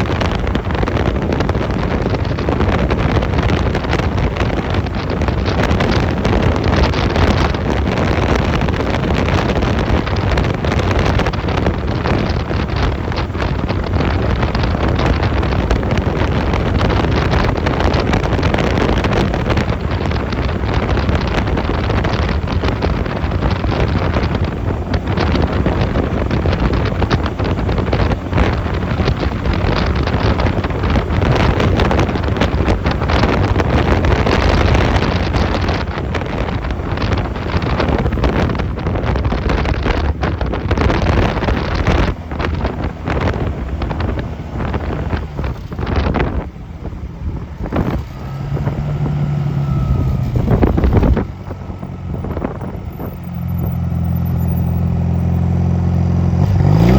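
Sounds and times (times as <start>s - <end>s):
motorcycle engine: 0.0s - 56.9s
road noise: 0.0s - 56.9s
wind buffeting microphone: 0.0s - 56.9s.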